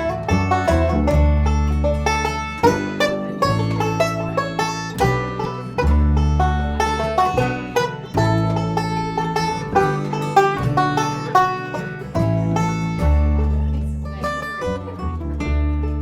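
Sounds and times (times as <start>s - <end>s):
double bass low notes: 0.0s - 16.0s
guitar: 0.0s - 16.0s
plucked banjo notes: 0.0s - 16.0s.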